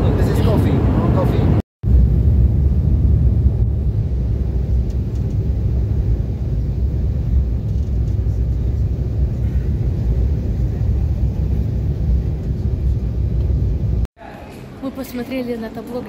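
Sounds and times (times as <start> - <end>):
airliner cabin engine rumble: 0.0 - 14.1.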